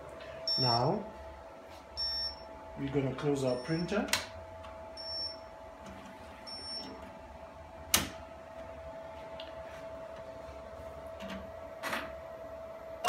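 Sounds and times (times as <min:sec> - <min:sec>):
printer whine and hum: 0:00.0 - 0:13.0.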